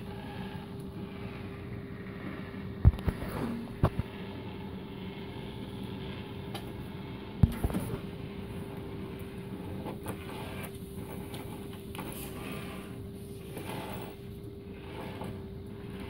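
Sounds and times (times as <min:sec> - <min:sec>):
treadmill motor hum and whine: 0:00.0 - 0:16.0.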